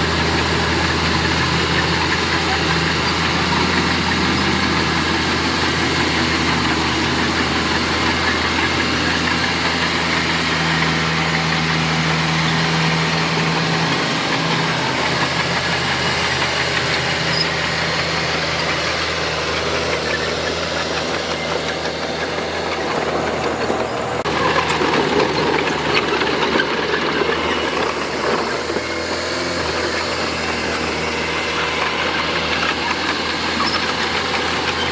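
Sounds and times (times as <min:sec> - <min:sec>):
diesel engine running: 0:00.0 - 0:34.9
mechanical rattling and clattering: 0:01.6 - 0:34.9.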